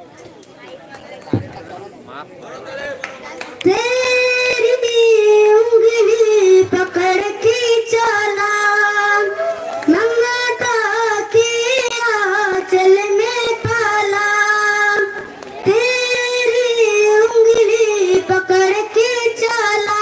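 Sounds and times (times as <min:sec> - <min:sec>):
boy singing into a microphone: 0:03.6 - 0:20.0.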